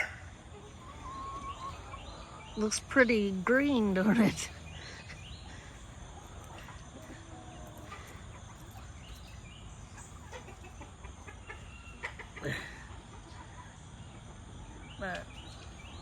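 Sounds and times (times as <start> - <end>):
chickens clucking softly: 0.0 - 16.0
low outdoor background noise: 0.0 - 16.0.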